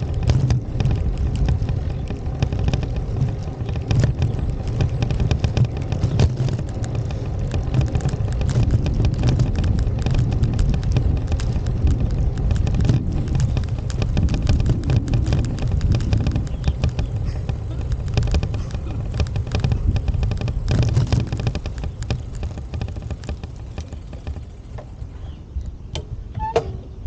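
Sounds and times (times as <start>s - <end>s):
heavy low rumble: 0.0s - 27.0s.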